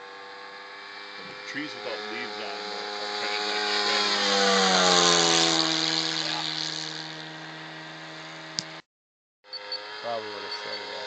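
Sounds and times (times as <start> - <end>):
model plane engine flyby: 0.0 - 8.8, 9.5 - 11.0.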